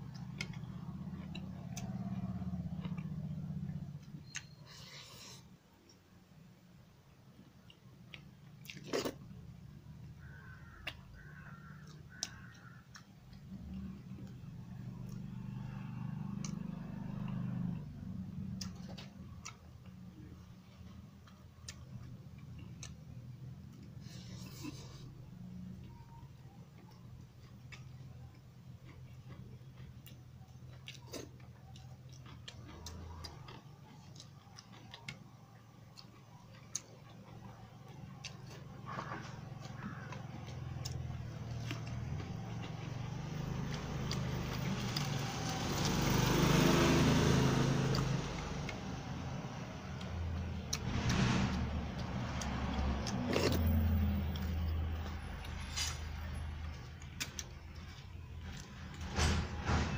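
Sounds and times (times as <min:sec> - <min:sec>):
chewing and smacking: 0:00.0 - 0:06.0, 0:10.2 - 0:58.7.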